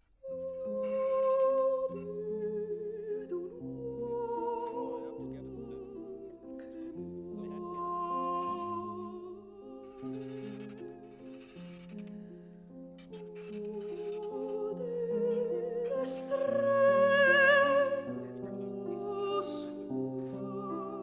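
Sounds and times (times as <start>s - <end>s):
slow folk melody: 0.0s - 21.0s.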